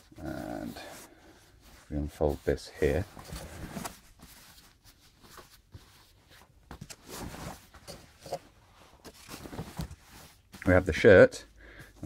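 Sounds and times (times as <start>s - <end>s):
fabric rustling: 0.0s - 11.2s.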